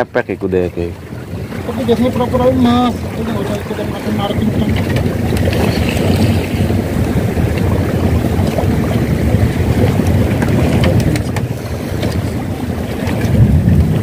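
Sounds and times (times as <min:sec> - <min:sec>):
sea water lapping: 0:00.0 - 0:14.0
wind buffeting microphone: 0:00.0 - 0:14.0.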